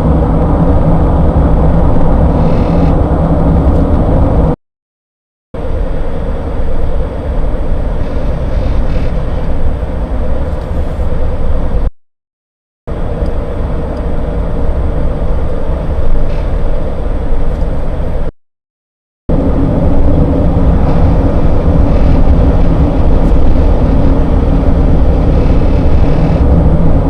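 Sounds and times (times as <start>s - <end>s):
car engine rumble in cabin: 0.0s - 4.6s, 5.6s - 11.9s, 12.9s - 18.3s, 19.3s - 27.0s.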